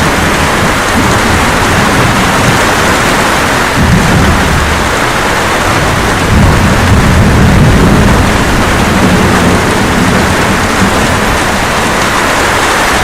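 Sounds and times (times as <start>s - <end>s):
low rolling thunder: 0.0s - 13.0s
steady rain: 0.0s - 13.0s.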